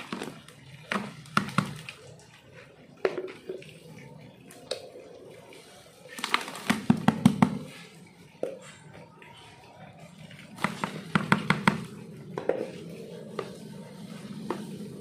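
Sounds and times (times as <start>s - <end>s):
plastic pots knocking and scraping: 0.0s - 15.0s.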